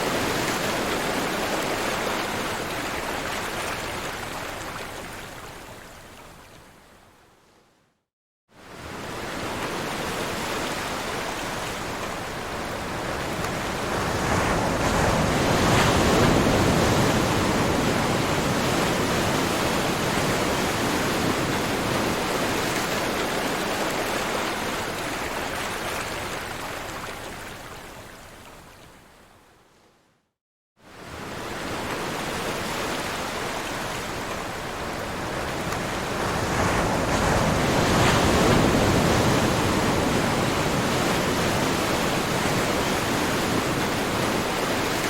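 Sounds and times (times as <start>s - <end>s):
ocean waves breaking on shore: 0.0s - 6.5s, 8.6s - 28.5s, 30.8s - 45.0s.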